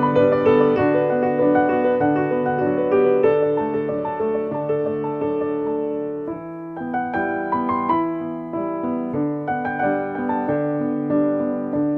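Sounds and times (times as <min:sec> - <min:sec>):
soft piano music: 0:00.0 - 0:11.9.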